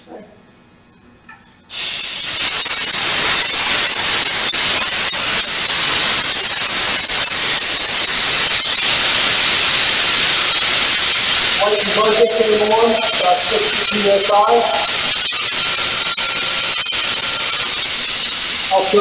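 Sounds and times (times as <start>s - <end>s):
compressed air hissing from valve: 1.7s - 19.0s.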